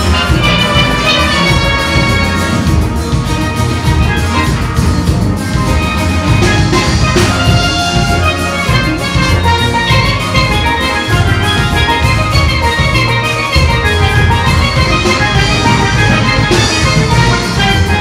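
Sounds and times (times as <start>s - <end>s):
steel pan band playing calypso: 0.0s - 18.0s.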